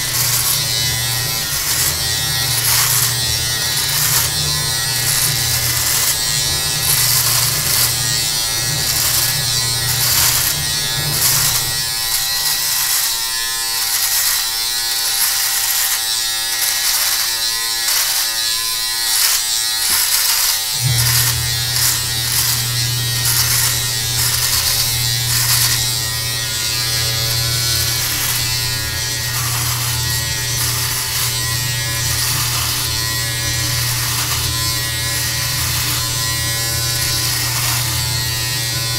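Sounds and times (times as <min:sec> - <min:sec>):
electric beard trimmer buzzing: 0:00.0 - 0:38.9.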